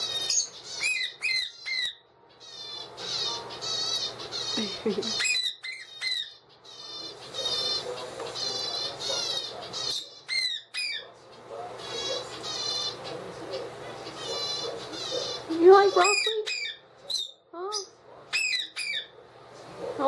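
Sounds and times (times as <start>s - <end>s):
parakeet chick begging calls: 0.0s - 19.2s
parakeet squawks: 0.0s - 20.0s.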